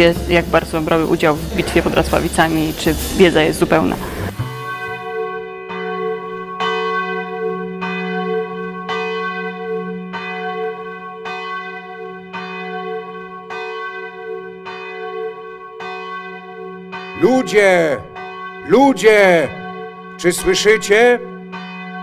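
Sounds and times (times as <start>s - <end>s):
large church bell tolling: 0.0s - 22.0s.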